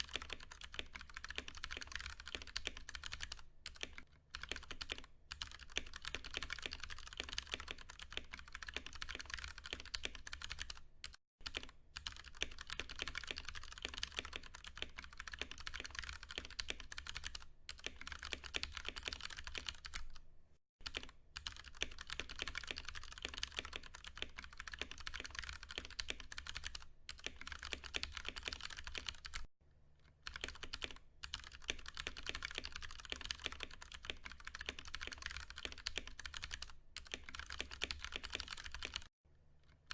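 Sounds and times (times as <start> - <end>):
mechanical keyboard typing: 0.0 - 20.2, 20.8 - 29.5, 30.2 - 39.1.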